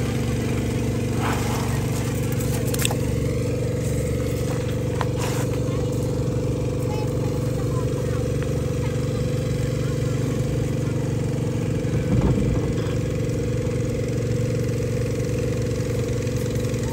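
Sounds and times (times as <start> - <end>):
engine bump: 0.0 - 16.9
small engine idling: 0.0 - 16.9.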